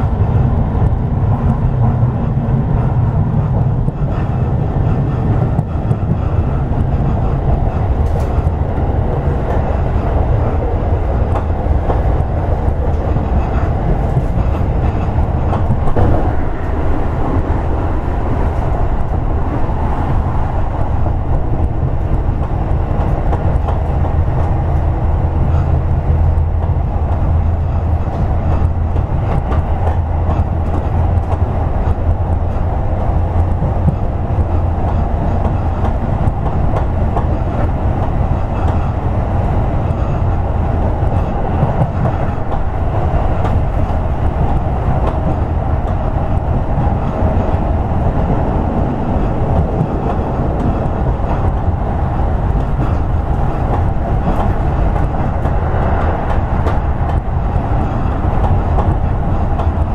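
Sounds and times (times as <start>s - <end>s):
track knocks: 0.0s - 59.9s
train wheels rumbling on rail: 0.0s - 59.9s.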